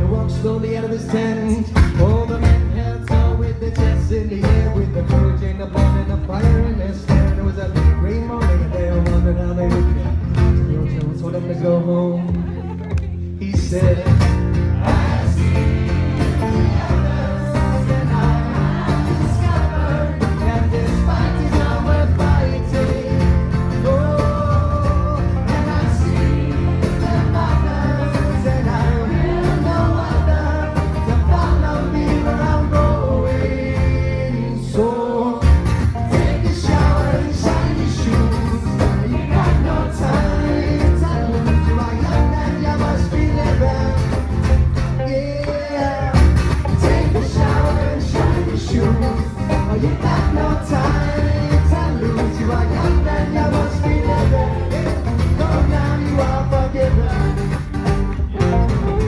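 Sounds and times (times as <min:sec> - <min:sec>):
folk-rock band playing: 0:00.0 - 0:59.0
person singing: 0:11.0 - 0:44.3, 0:45.0 - 0:59.0.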